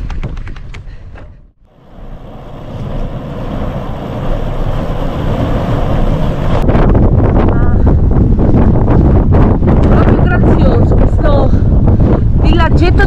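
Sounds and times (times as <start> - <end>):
wind buffeting microphone: 1.6 - 13.0.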